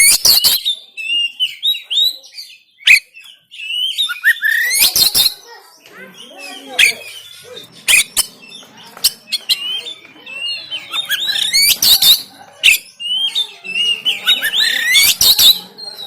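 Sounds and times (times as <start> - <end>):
bird singing harsh song: 0.0 - 16.0.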